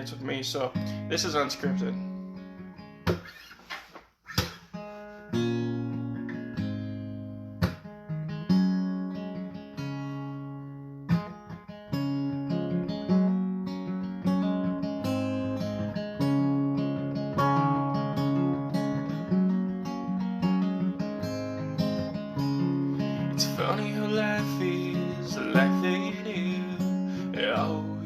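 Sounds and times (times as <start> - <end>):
acoustic guitar strumming chords: 0.0 - 3.5, 4.3 - 28.0.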